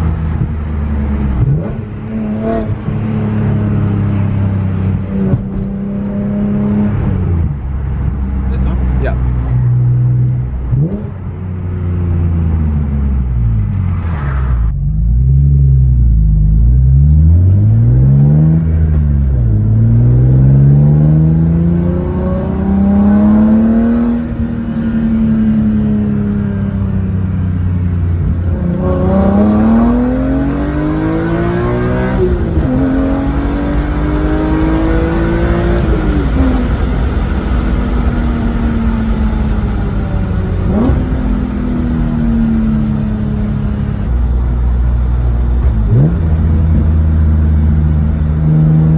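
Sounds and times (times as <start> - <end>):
car accelerating with upshifts: 0.0 - 48.9
car engine revving: 0.0 - 48.9.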